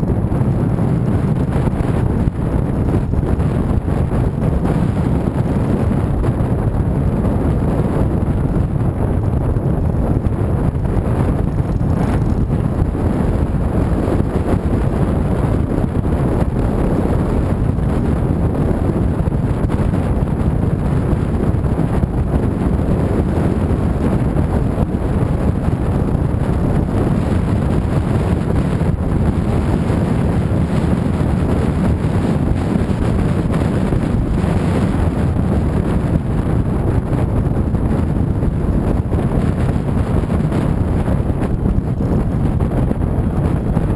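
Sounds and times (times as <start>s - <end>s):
motorcycle engine and road noise: 0.0s - 43.9s
wind buffeting microphone: 0.0s - 43.9s.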